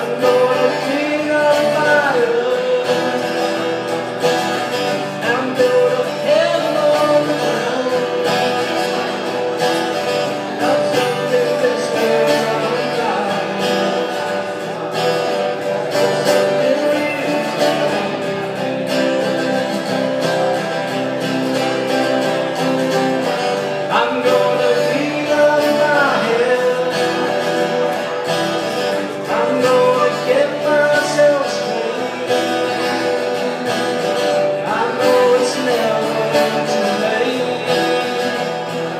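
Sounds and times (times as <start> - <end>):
acoustic guitars strummed and picked: 0.0 - 38.9.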